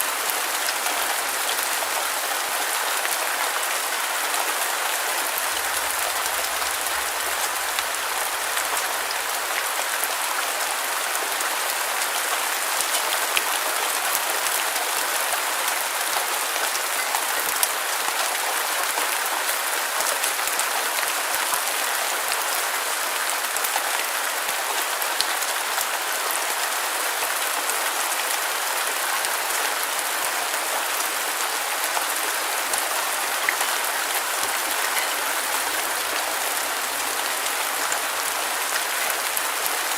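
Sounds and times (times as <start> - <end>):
steady heavy rain: 0.0 - 39.9.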